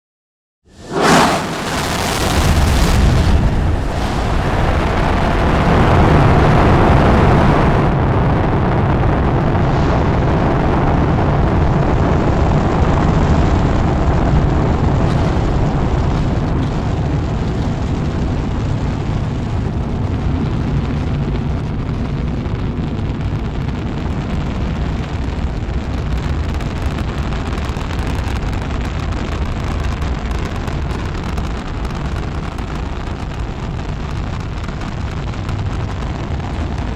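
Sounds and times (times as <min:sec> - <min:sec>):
crackle: 0:00.7 - 0:36.9
rocket engines rumbling: 0:00.7 - 0:36.9.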